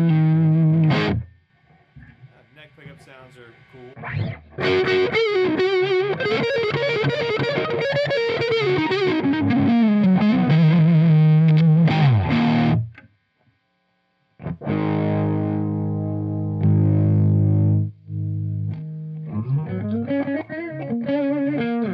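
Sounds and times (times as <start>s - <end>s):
overdriven electric guitar lead: 0.0s - 1.4s, 3.9s - 13.1s, 14.4s - 21.9s.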